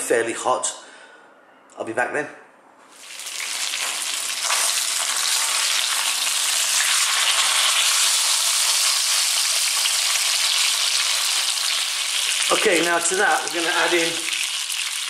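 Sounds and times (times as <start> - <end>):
fish sizzling in hot oil: 2.9 - 15.0.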